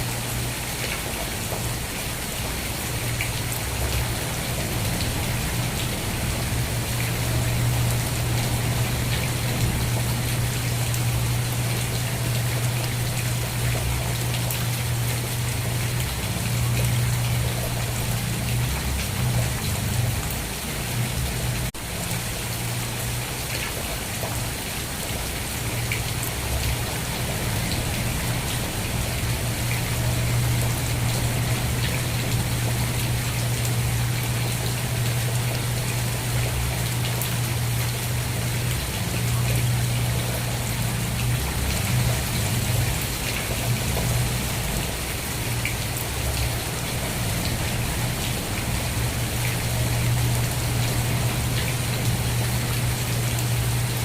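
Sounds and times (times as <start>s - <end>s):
constant low rumble: 0.0s - 54.0s
steady rain falling: 0.0s - 54.0s.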